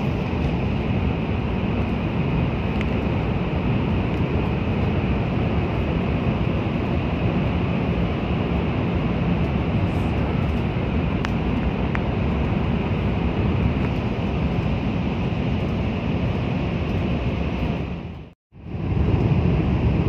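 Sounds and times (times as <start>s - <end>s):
rushing air: 0.0s - 20.0s
train low rumble: 0.0s - 20.0s.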